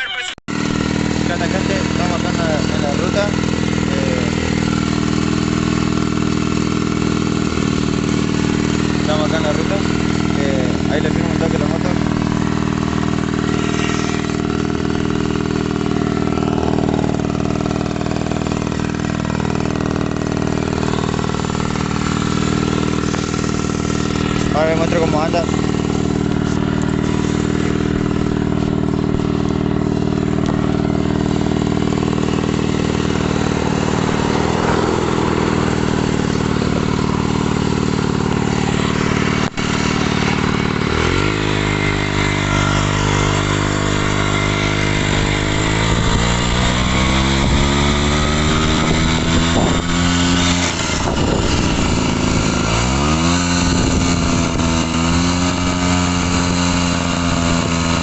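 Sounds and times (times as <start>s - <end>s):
motorcycle engine revving: 0.5s - 58.0s.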